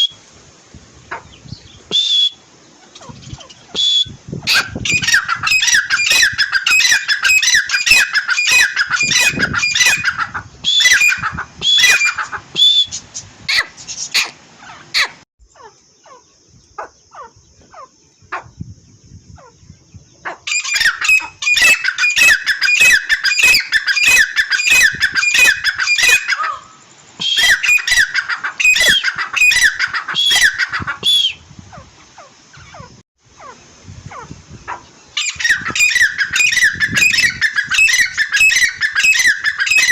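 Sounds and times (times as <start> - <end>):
francolins calling harshly: 1.0 - 39.9.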